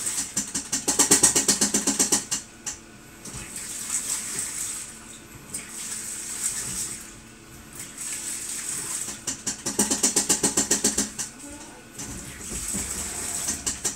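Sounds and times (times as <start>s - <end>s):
washing machine washing: 0.0s - 13.9s.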